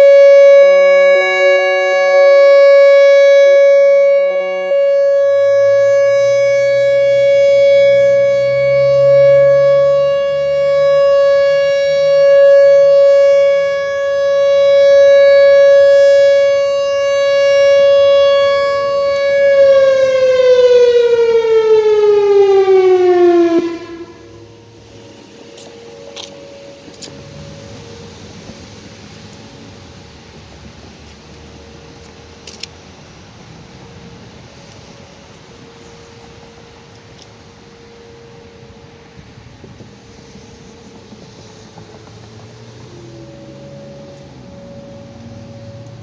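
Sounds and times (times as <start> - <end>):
electronic warning siren: 0.0 - 46.0.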